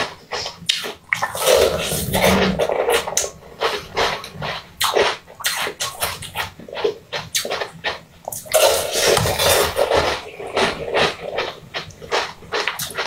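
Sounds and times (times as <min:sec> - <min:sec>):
slurping and crunching: 0:00.0 - 0:13.0
wet eating mouth sounds: 0:00.0 - 0:13.0.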